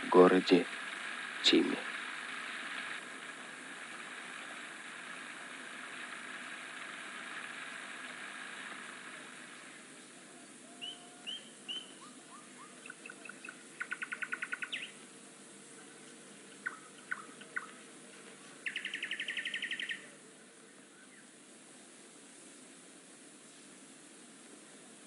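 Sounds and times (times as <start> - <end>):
small birds chirping: 0.0 - 21.6
steady hiss: 0.0 - 25.0.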